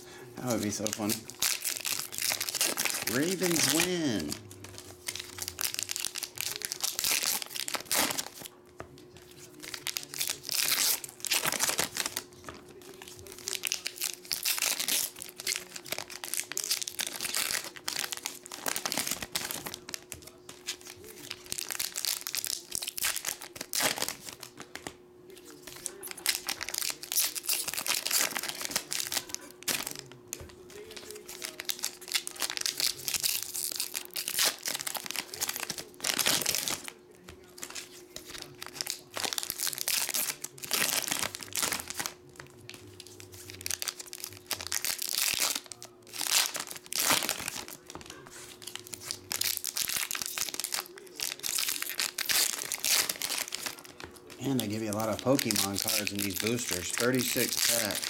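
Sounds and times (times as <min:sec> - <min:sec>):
foil wrappers crinkling and tearing: 0:00.2 - 0:58.0.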